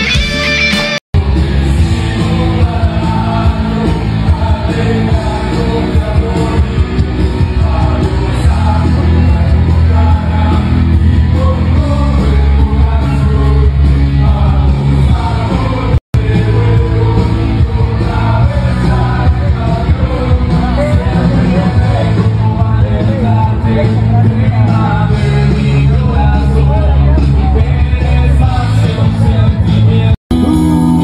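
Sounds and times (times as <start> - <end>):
loud rock music with singer: 0.0 - 31.0.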